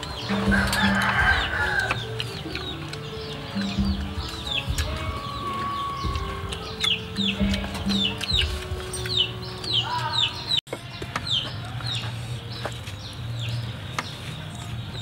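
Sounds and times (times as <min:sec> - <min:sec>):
chickens peeping: 0:00.0 - 0:15.0
quiet background music: 0:00.0 - 0:15.0.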